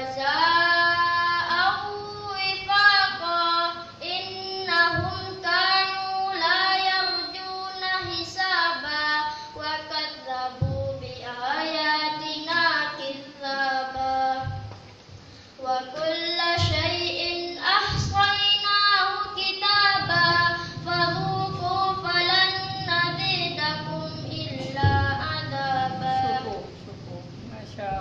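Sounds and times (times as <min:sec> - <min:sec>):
boy chanting melodically: 0:00.0 - 0:14.9, 0:15.6 - 0:27.1.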